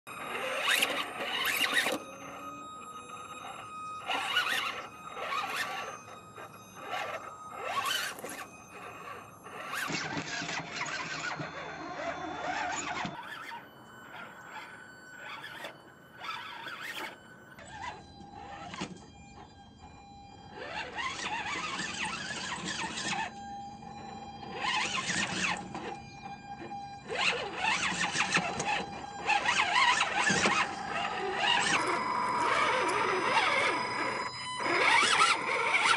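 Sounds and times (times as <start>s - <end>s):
electric motor whining: 0.1s - 35.9s.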